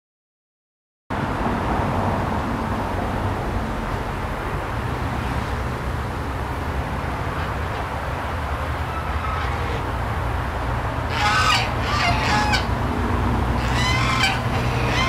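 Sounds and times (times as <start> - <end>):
distant road traffic rumble: 1.1 - 15.0.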